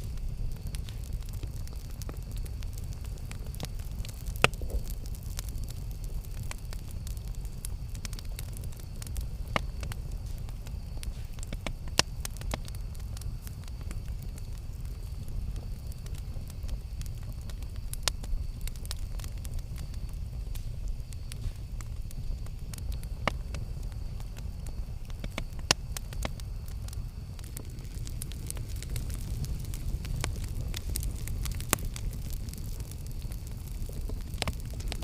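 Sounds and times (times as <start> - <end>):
campfire flames rumbling: 0.0 - 35.0
wood crackling and popping: 0.0 - 35.0.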